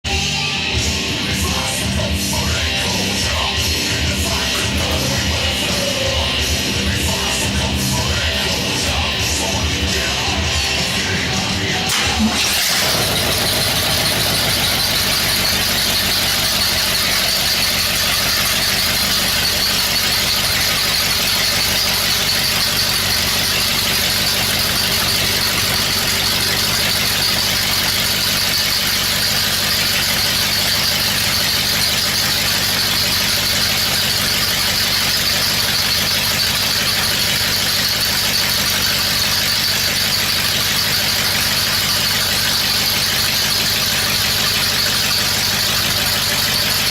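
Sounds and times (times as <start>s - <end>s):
car engine running: 0.1s - 46.9s
high-pitched whine: 0.1s - 46.9s.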